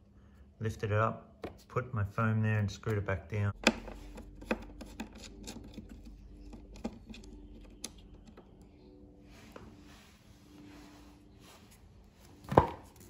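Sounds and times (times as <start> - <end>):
faint steady hum: 0.0 - 12.4.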